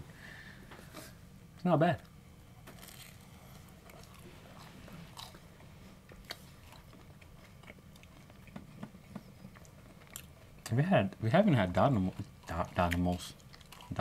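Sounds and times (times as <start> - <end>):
people chewing pizza: 2.6 - 14.0.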